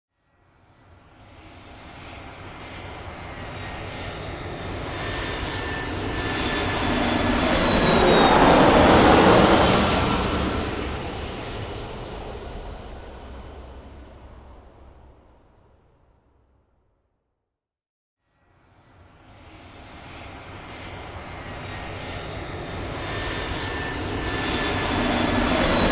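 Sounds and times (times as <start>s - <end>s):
airplane flying overhead: 0.6s - 16.0s, 18.6s - 25.9s.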